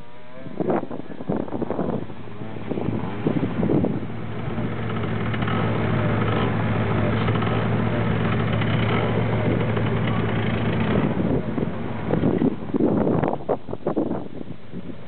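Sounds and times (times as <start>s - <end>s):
car engine idling: 1.0s - 13.8s.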